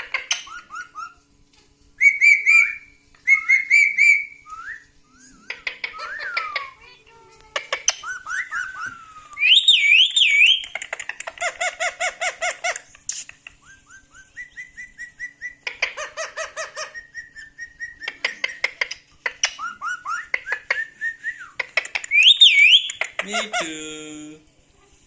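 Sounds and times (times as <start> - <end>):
parrot whistling and chattering: 0.0 - 1.2, 2.0 - 23.8.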